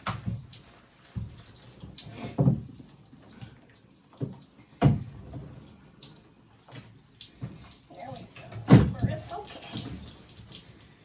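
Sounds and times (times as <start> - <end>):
water splashing in a tub: 0.0 - 11.0.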